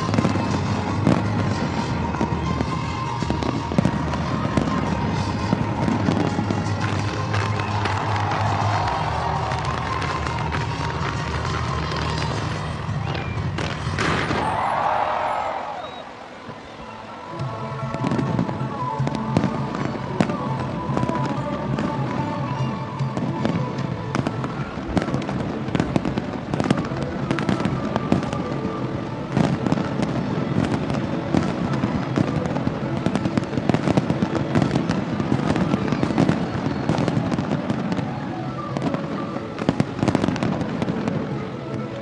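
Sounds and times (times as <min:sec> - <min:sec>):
fireworks bangs and crackles: 0:00.0 - 0:42.0
music playing: 0:00.0 - 0:42.0.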